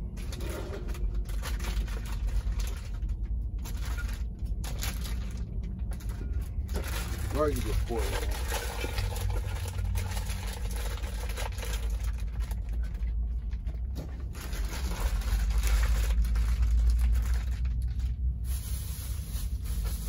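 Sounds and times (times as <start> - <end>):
low steady rumble: 0.0 - 20.0
plastic bag rustling: 0.0 - 20.0.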